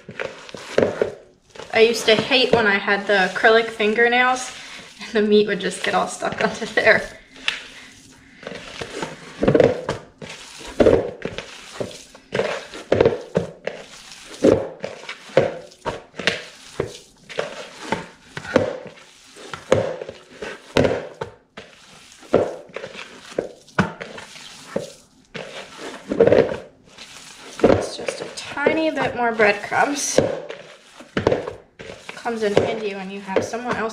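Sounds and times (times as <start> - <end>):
hands squishing meat mix: 0.0 - 33.9.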